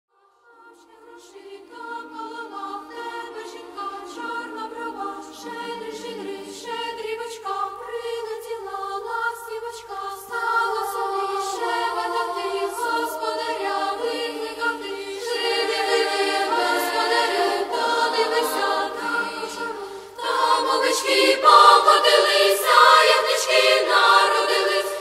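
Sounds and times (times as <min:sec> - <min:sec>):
choir singing in harmony: 0:00.2 - 0:25.0.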